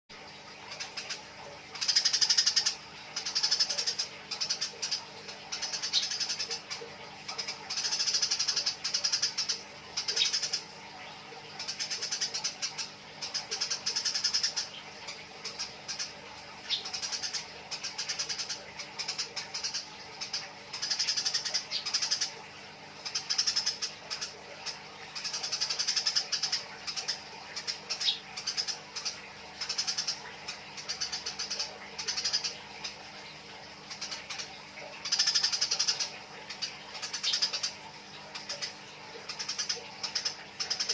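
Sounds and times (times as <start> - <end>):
sparrows chattering calls: 0.7 - 40.9.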